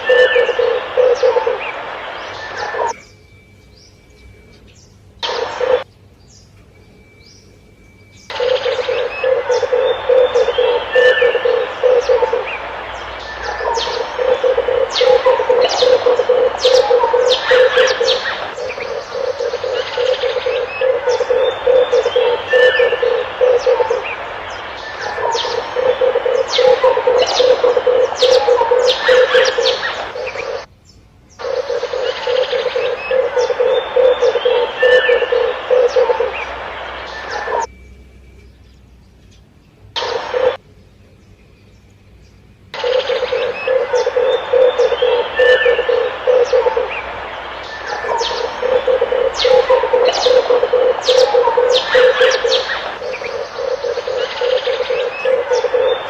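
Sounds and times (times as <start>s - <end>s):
doves cooing: 0.0s - 3.0s, 5.2s - 5.8s, 8.3s - 30.7s, 31.4s - 37.7s, 40.0s - 40.6s, 42.8s - 56.0s
small birds chirping: 0.0s - 56.0s.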